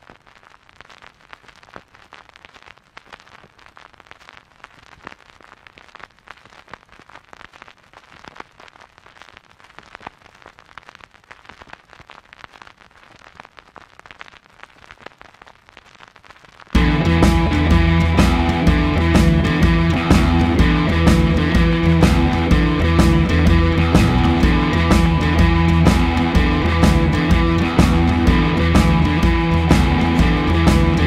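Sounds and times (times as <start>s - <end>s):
record surface crackle: 0.0s - 31.0s.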